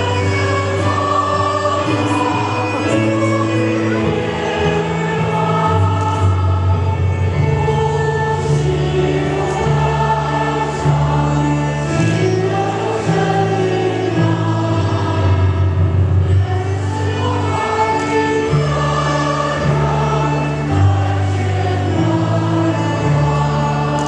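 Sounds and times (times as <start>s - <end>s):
choir singing a hymn: 0.0s - 24.0s
sustained low accompaniment notes: 0.0s - 24.0s.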